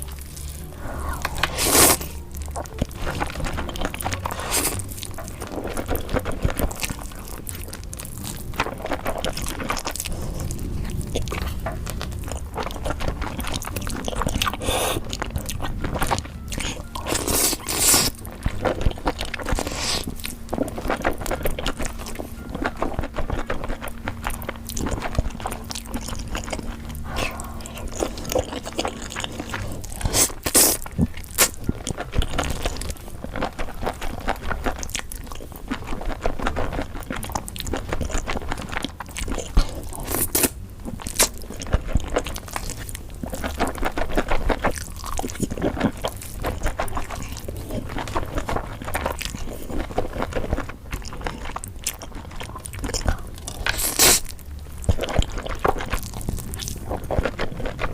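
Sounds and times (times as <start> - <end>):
person chewing crunchy food: 0.0 - 57.9.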